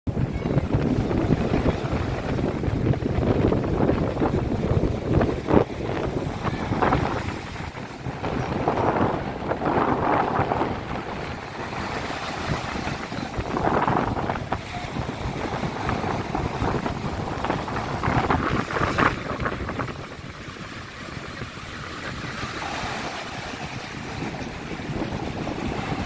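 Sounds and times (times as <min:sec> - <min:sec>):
sea waves washing onto a beach: 0:00.1 - 0:26.0
wind noise on microphone: 0:00.1 - 0:26.0.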